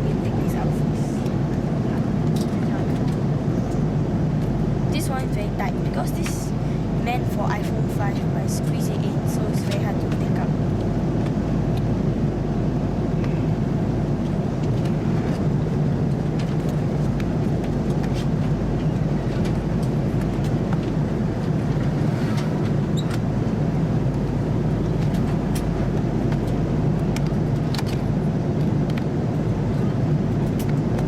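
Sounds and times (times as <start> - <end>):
aircraft cabin engine and airflow noise: 0.0 - 31.0.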